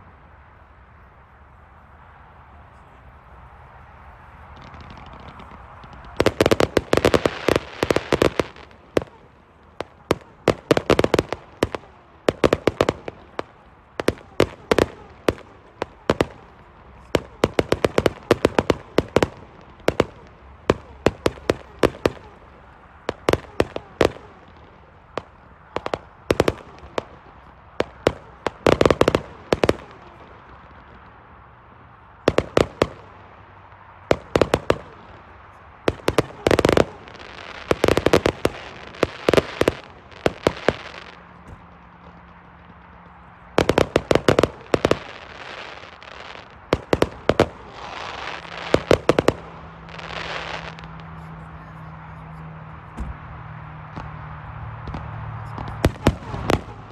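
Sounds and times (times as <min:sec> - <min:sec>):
fireworks bangs and crackling: 0:03.8 - 0:56.9.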